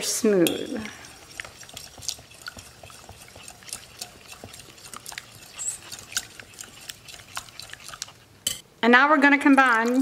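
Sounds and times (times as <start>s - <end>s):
whisk clicking against glass bowl: 0.4s - 8.6s.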